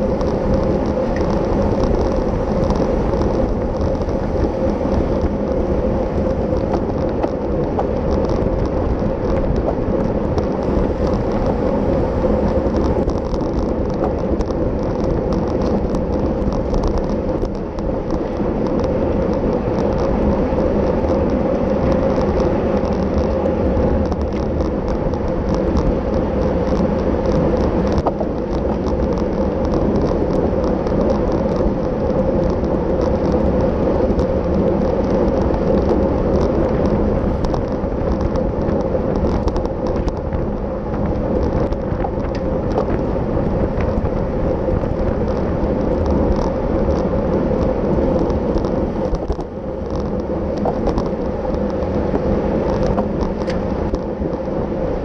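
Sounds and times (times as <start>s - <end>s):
bicycle road rumble: 0.0s - 55.0s
small clicks and rattles: 0.0s - 55.0s
wind noise: 0.0s - 55.0s.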